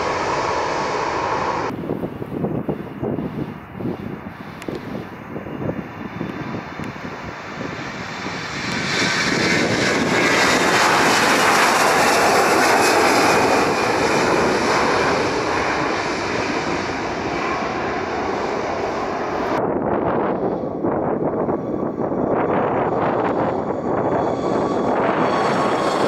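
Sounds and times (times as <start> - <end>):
jet airliner taking off: 0.0 - 26.0.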